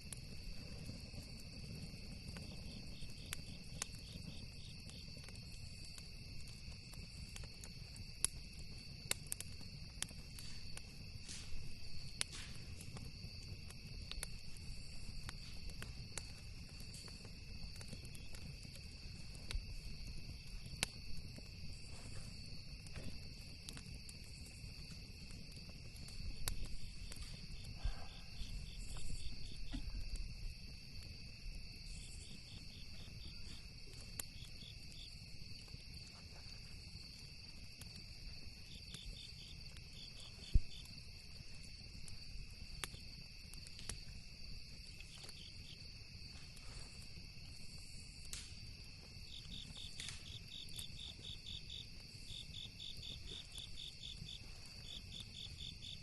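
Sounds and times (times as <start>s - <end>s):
campfire crackling and popping: 0.0s - 56.0s
crickets trilling: 0.0s - 56.0s.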